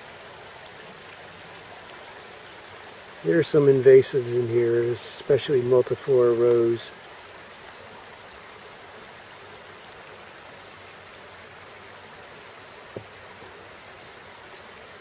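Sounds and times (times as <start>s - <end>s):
stream babbling over rocks: 0.0s - 15.0s.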